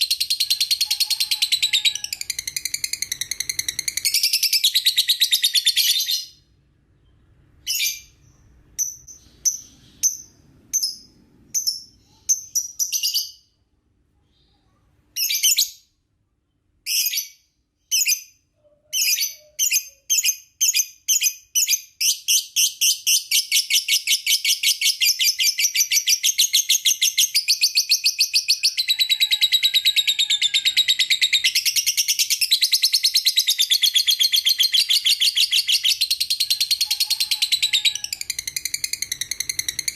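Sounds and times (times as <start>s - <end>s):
lovebird chirping: 0.0s - 13.6s, 16.8s - 39.9s.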